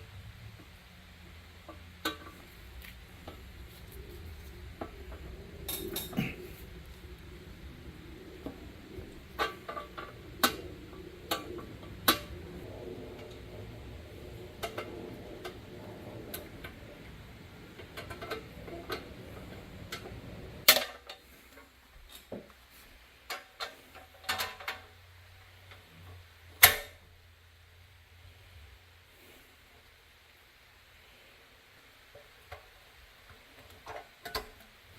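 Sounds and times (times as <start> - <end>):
low background hum: 0.0 - 34.9.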